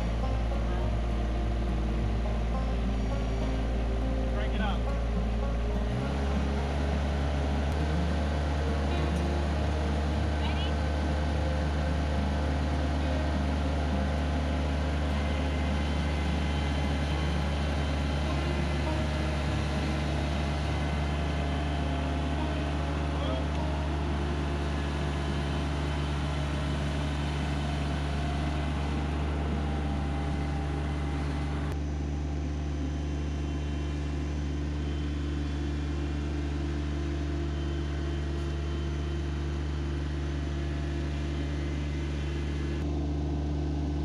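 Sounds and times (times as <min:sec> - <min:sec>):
tractor engine idling: 0:00.0 - 0:44.0.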